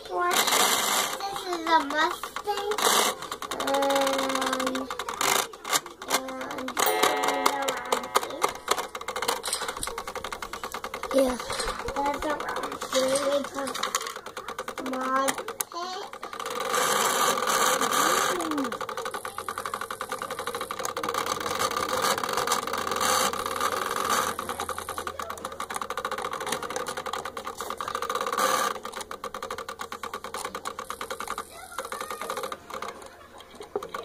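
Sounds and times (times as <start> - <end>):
clock gears rattling whir: 0.0 - 34.0.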